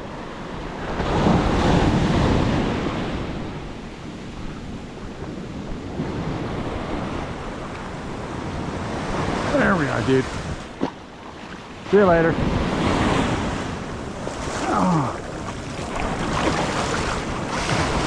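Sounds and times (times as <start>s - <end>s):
surf washing up beach: 0.0s - 18.0s.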